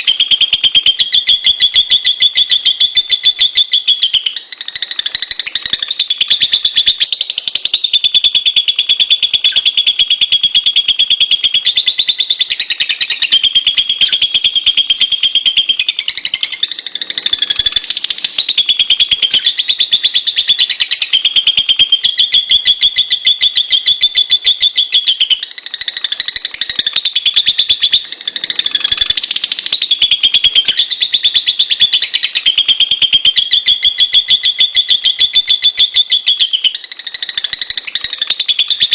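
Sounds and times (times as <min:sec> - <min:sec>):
lovebird chattering: 0:00.0 - 0:38.9.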